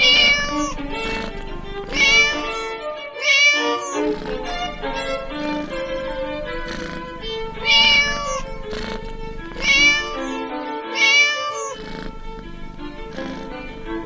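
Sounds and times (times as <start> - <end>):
cat meowing: 0.0 - 14.0.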